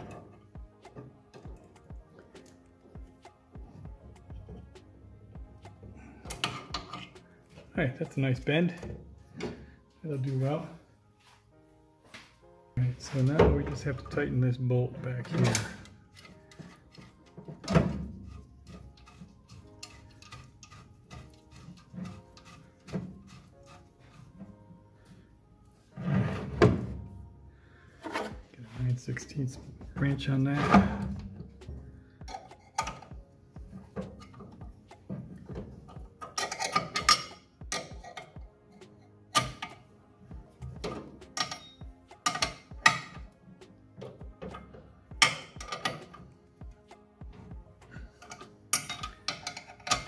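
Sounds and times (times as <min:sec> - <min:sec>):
background music: 0:00.0 - 0:50.0.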